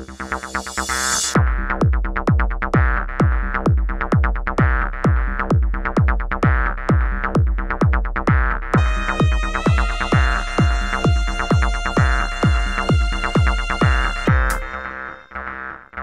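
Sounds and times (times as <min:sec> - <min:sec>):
electronic music with kick drum: 0:00.0 - 0:15.6.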